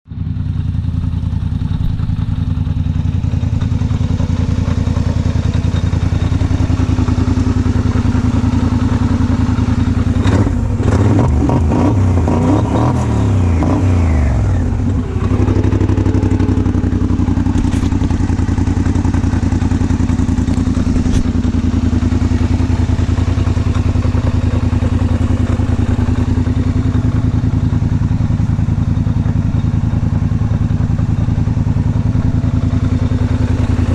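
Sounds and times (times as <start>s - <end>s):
atv engine idling and revving: 0.0s - 33.9s.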